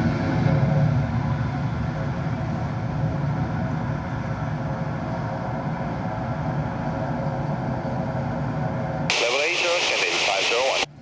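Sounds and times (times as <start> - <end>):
jet engine drone: 0.0 - 11.0.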